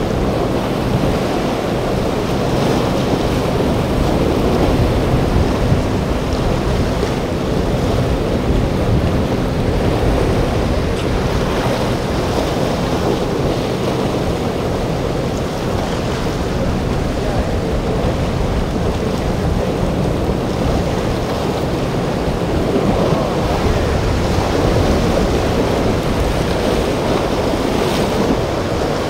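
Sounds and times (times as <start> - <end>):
low hum of boat engines: 0.0 - 29.0
surf rushing: 0.0 - 29.0
wind buffeting microphone: 0.0 - 29.0.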